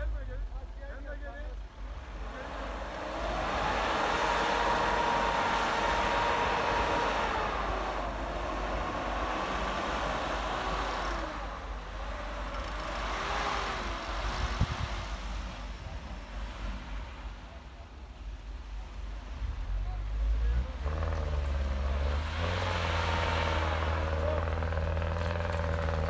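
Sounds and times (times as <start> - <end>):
pickup engine revving: 1.6 - 17.3, 19.2 - 26.0.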